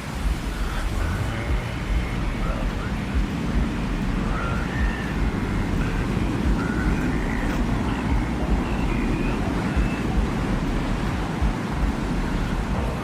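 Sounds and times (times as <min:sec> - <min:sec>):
low rumbling wind: 0:00.0 - 0:13.0.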